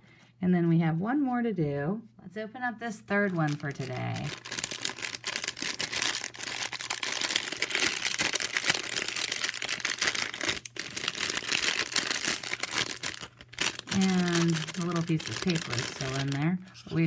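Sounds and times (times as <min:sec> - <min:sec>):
plastic bag crinkling: 0:03.2 - 0:17.0.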